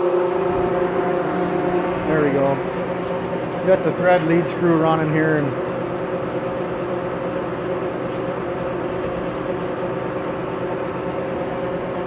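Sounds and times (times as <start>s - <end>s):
lathe mechanical hum: 0.0s - 12.0s.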